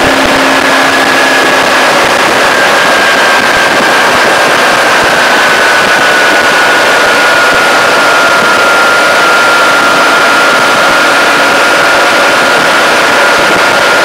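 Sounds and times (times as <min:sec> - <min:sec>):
thin high whine: 0:00.0 - 0:14.0
wind rushing over microphone: 0:00.0 - 0:14.0.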